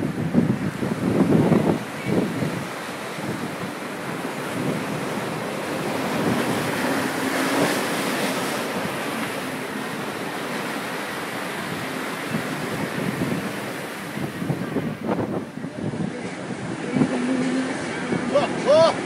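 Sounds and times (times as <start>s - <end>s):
sea water rushing along hull: 0.0s - 19.0s
wind buffeting microphone: 0.0s - 19.0s.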